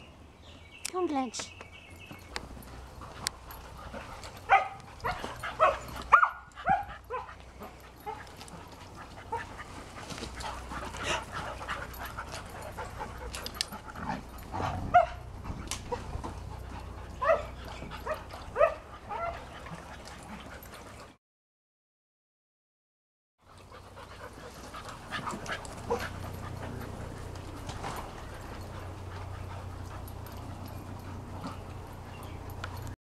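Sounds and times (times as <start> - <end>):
dogs barking and yipping: 2.0 - 21.2, 23.5 - 33.0.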